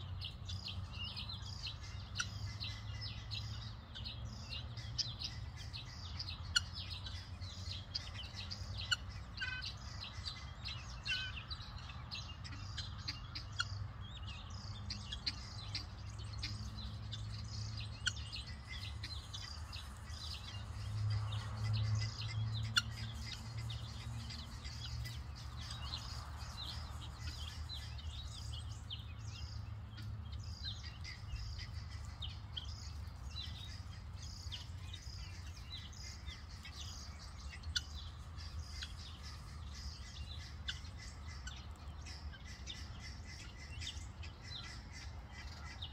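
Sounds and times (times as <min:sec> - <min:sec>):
keets peeping: 0:00.0 - 0:45.9.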